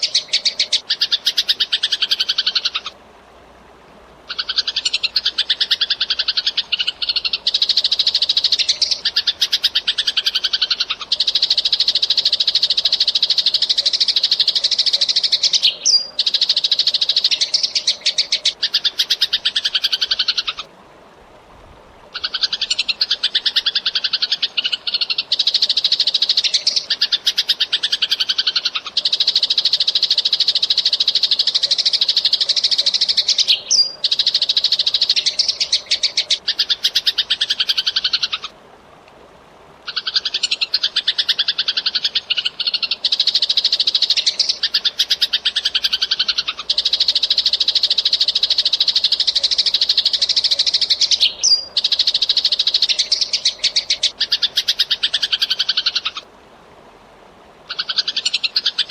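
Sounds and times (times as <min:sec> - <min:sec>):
sparrow chirping: 0:04.3 - 0:20.6, 0:22.2 - 0:38.5, 0:39.9 - 0:56.2.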